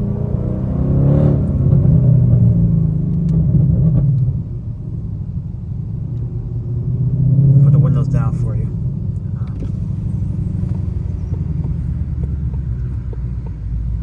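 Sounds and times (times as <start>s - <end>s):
car engine exhaust drone: 0.0s - 14.0s.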